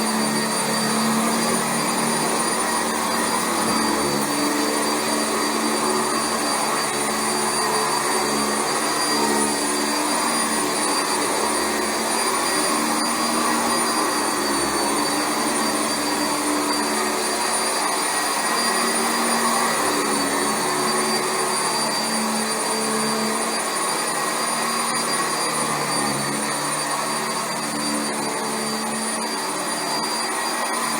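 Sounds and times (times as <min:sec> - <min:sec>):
upright vacuum cleaner running: 0:00.0 - 0:30.9.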